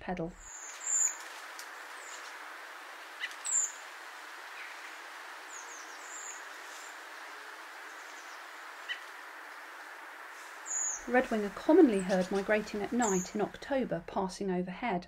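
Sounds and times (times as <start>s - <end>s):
steady background hiss: 0.3s - 14.4s.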